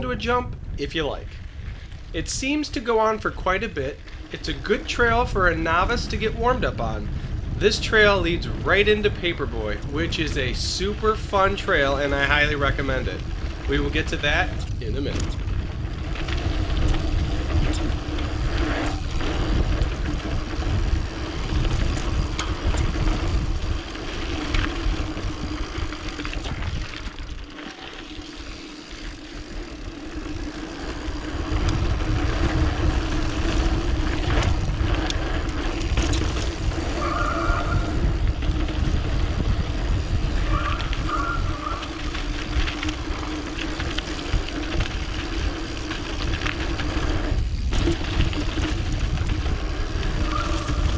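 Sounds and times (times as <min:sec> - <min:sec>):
bike clicking and rattling: 0:00.0 - 0:50.9
tyres humming on dirt: 0:00.0 - 0:50.9
wind buffeting microphone: 0:00.0 - 0:50.9.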